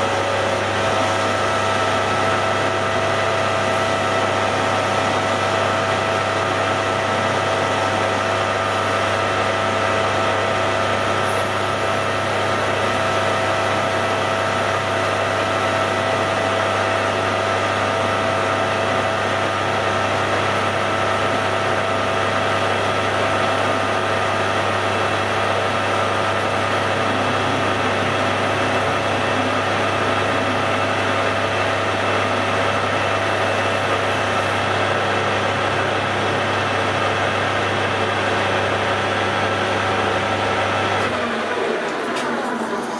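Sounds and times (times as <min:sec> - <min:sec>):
metal lathe running: 0:00.0 - 0:42.9.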